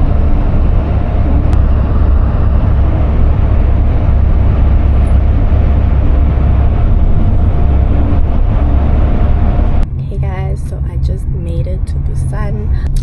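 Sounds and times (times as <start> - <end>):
faint steady hum: 0.0 - 13.0
moving vehicle rumble: 0.0 - 13.0.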